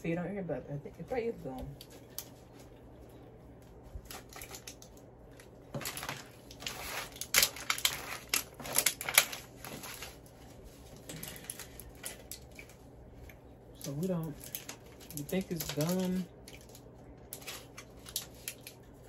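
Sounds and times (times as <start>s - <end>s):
plastic wrappers crinkling: 3.6s - 19.0s.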